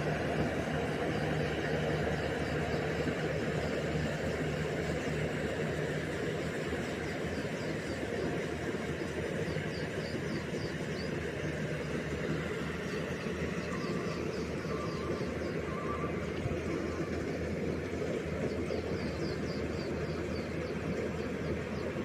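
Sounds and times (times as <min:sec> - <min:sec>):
combine harvester engine running: 0:00.0 - 0:22.0.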